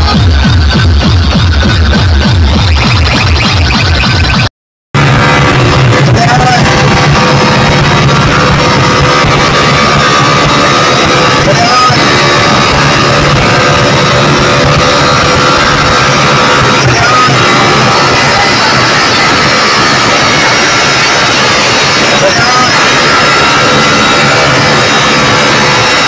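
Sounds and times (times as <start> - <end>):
loud bass-heavy music from speakers: 0.0 - 26.0.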